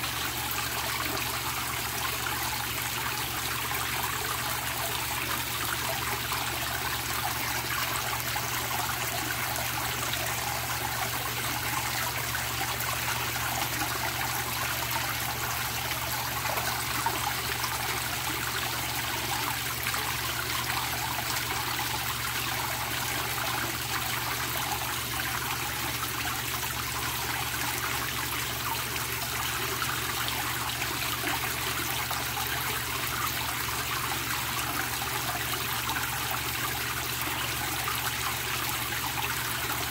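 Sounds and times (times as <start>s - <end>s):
water pouring into pond: 0.0s - 39.9s.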